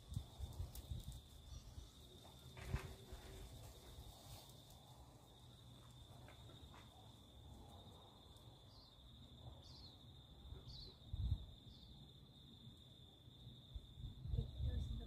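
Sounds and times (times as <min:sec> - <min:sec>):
high insect drone: 0:00.0 - 0:14.7.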